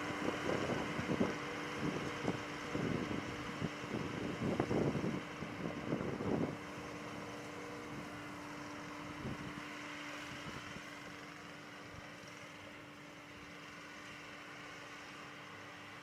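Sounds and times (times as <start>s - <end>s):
skid steer with brush cutter running: 0.0s - 16.0s.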